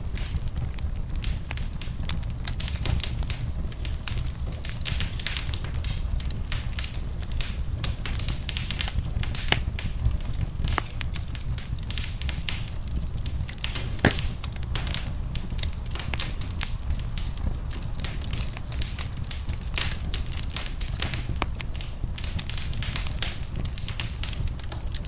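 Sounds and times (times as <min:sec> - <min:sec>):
low rumble of flame: 0:00.0 - 0:25.0
wood fire crackling and popping: 0:00.0 - 0:25.0.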